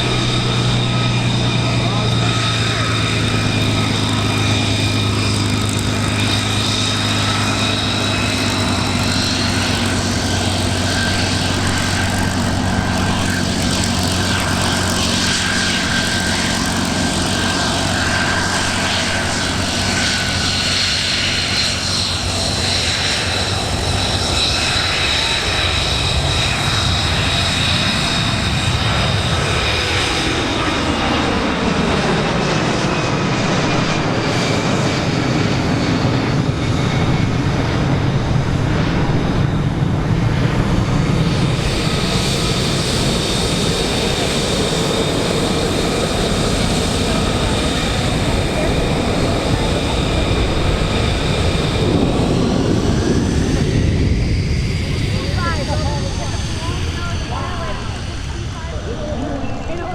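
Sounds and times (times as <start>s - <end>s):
airplane engine running loudly: 0.0s - 59.9s.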